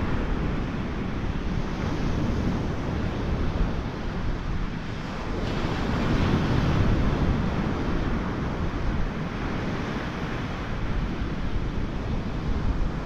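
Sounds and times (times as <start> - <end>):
surf washing onto beach: 0.0 - 13.0
wind noise on microphone: 0.0 - 13.0.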